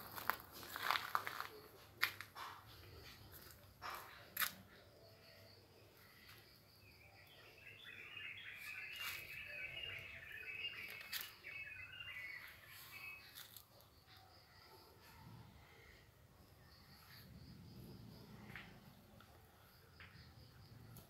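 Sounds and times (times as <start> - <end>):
faint bird chirping: 2.4 - 21.0.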